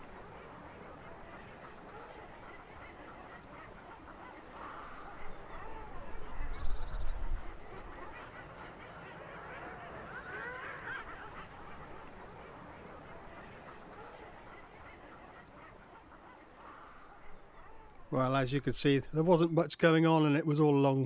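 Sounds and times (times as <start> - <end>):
seabirds calling: 0.0 - 20.9.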